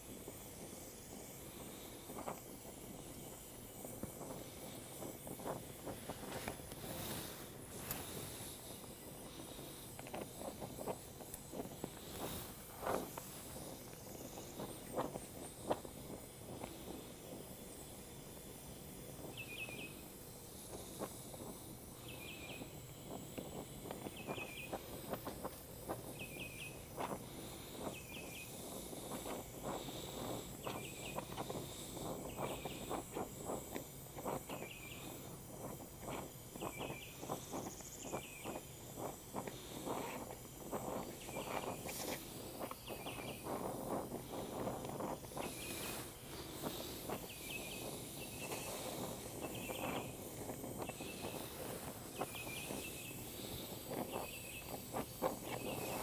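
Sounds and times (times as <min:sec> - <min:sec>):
crackles and pops: 0:00.0 - 0:56.0
gas torch hissing: 0:00.0 - 0:56.0.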